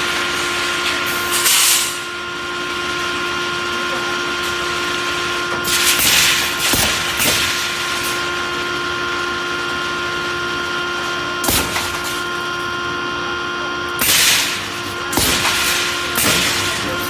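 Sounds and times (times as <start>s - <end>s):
welding machine humming: 0.0s - 17.0s.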